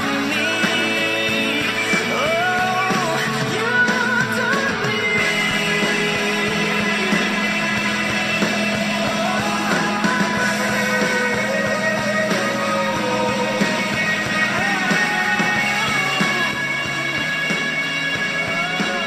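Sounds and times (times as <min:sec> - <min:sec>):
rock band playing: 0:00.0 - 0:19.0
sliding lead guitar line: 0:00.0 - 0:19.0.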